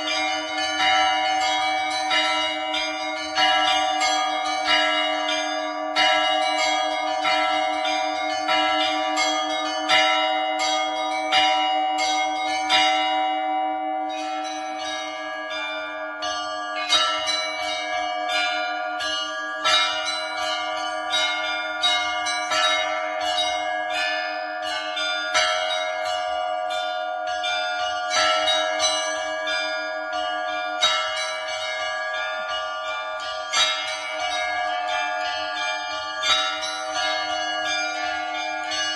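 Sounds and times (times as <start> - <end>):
hum of large bells: 0.0 - 38.9
small church bells struck quickly: 0.0 - 38.9.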